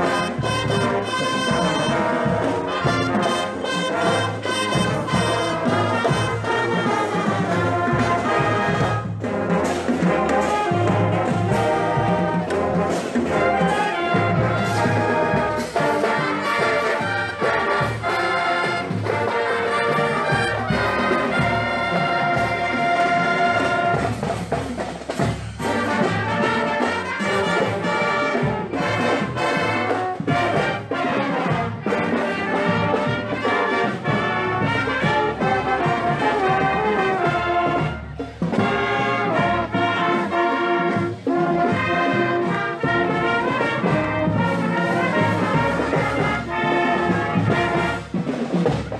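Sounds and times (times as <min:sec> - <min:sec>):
drumline: 0:00.0 - 0:48.9
marching band brass tune: 0:00.0 - 0:48.9.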